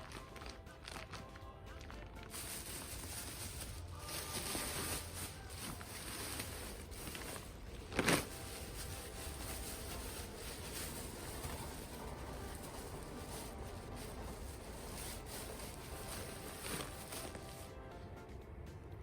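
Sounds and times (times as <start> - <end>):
hands rustling through soil: 2.2 - 17.7.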